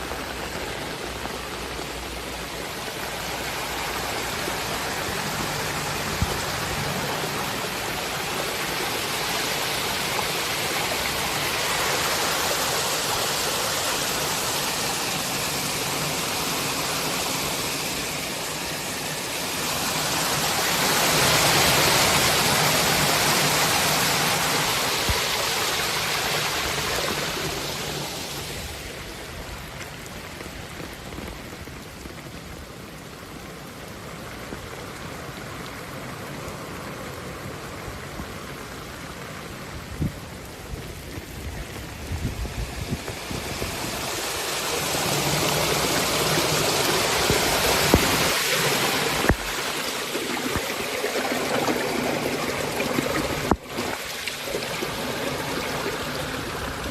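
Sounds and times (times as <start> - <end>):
heavy rain: 0.0 - 56.9
rushing floodwater: 0.0 - 56.9.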